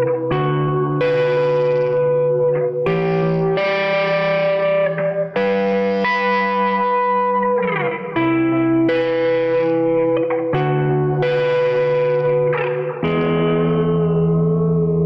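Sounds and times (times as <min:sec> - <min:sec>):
guitar pitch slide: 0:00.0 - 0:15.0
overdriven electric guitar chords: 0:00.0 - 0:15.0.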